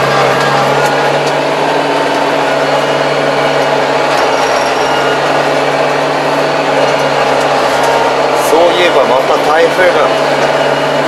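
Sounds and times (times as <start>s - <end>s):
tractor diesel engine drone: 0.0s - 11.0s.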